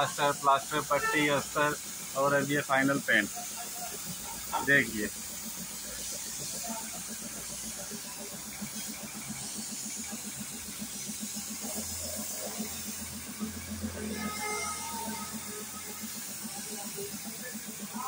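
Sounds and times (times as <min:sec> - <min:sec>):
spray gun hissing: 0:00.0 - 0:18.0.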